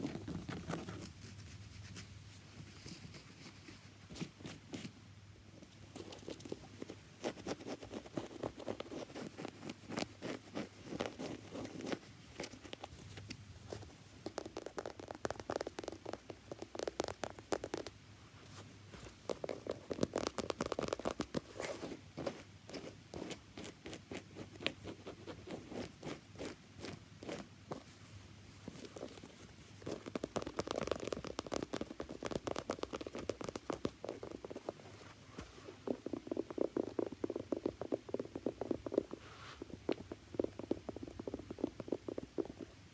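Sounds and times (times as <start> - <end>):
tapping and scratching on shoe: 0.0 - 1.2, 6.0 - 18.0, 19.0 - 27.9, 28.6 - 42.9.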